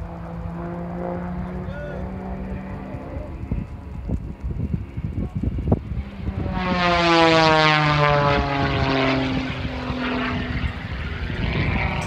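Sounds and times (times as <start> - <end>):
propeller plane passing: 0.0 - 12.0.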